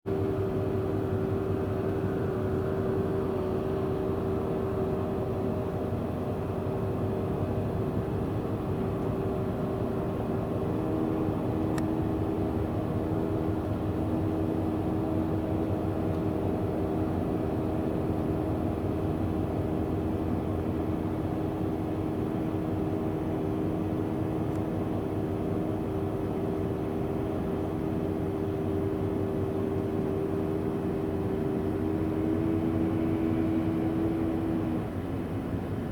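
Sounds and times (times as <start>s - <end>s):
ship engines droning: 0.1s - 35.9s.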